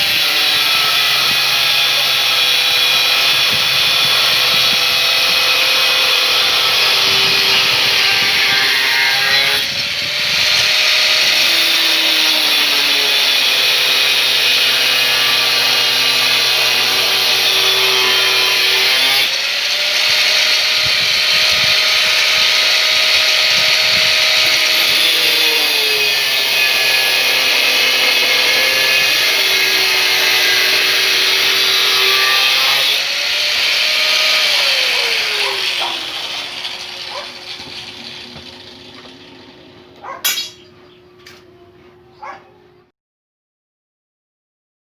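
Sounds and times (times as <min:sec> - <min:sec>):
angle grinder cutting: 0:00.0 - 0:40.7.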